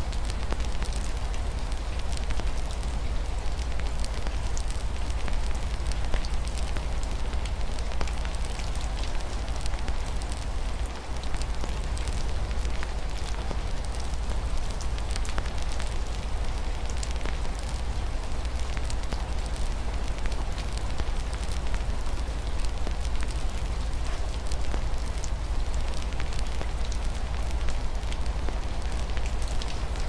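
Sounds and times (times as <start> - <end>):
soft rain on a window: 0.0 - 30.0
wood fire crackling and popping: 0.2 - 30.0.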